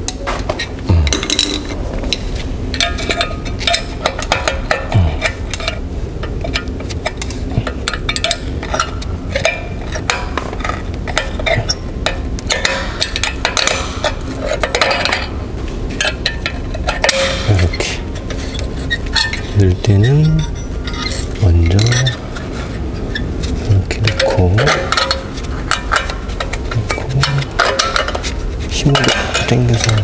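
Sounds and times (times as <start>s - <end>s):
metal spring clinking and scraping: 0.1s - 30.0s.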